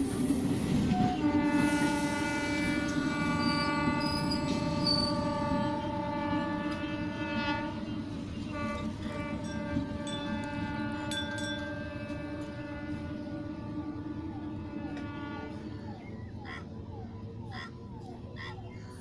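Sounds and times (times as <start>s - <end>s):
train wheels rumbling on rails: 0.0s - 18.5s
train horn long blast: 0.4s - 16.0s.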